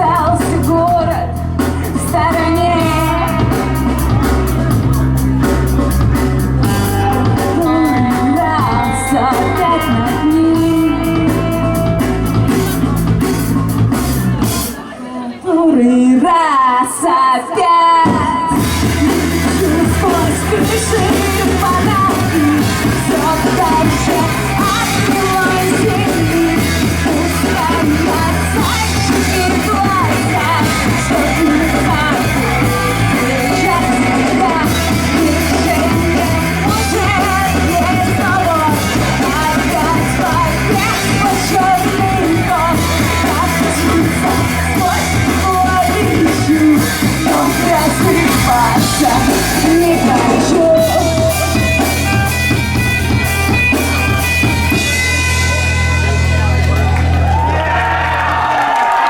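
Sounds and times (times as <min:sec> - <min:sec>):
live rock band playing: 0:00.0 - 0:15.2, 0:17.6 - 0:59.0
person singing lead vocal: 0:00.0 - 0:55.6.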